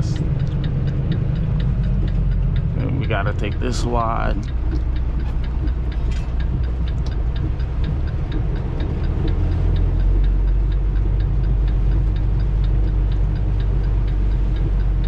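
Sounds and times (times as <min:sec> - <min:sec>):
truck diesel engine running: 0:00.0 - 0:15.0
turn signal ticking: 0:00.0 - 0:15.0.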